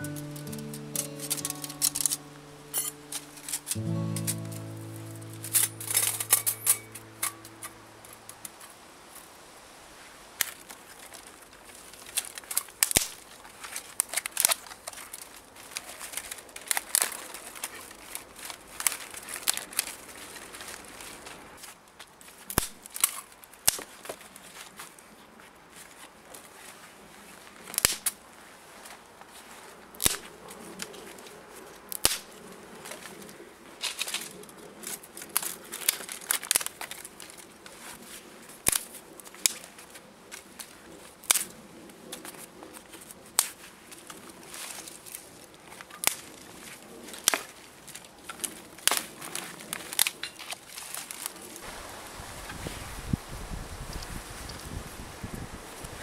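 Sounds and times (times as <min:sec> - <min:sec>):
dry twigs and leaves crackling: 0:00.0 - 0:09.3, 0:10.3 - 0:53.1.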